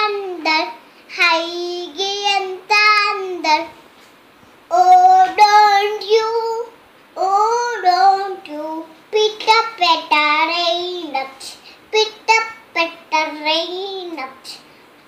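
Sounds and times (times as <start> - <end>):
small child singing: 0.0 - 3.8, 4.7 - 14.7.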